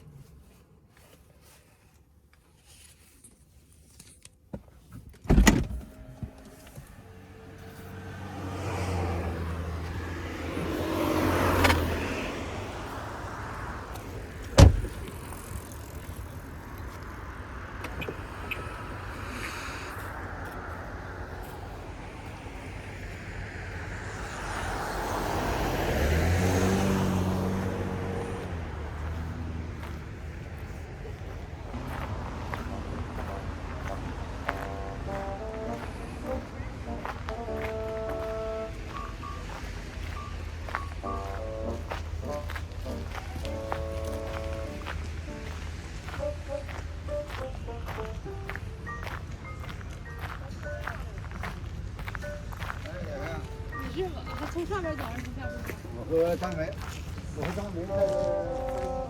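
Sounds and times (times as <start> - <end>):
cars passing by: 0.0 - 3.2, 5.1 - 59.0.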